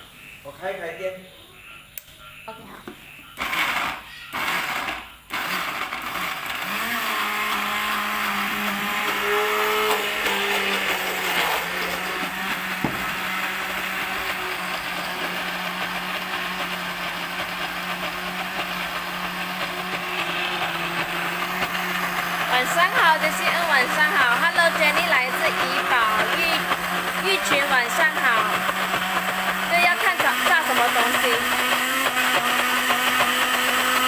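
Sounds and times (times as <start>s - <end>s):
blender motor grinding: 3.4s - 34.0s.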